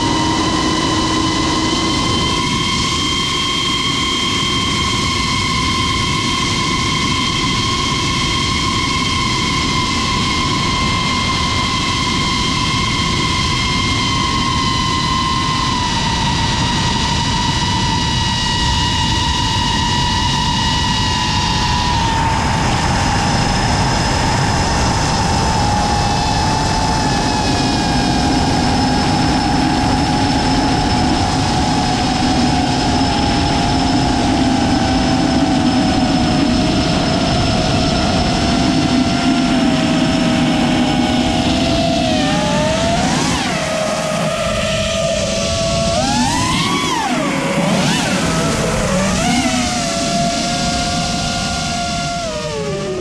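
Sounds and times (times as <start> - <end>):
constant rushing noise: 0.0 - 53.0
drone propellers whining: 0.0 - 53.0.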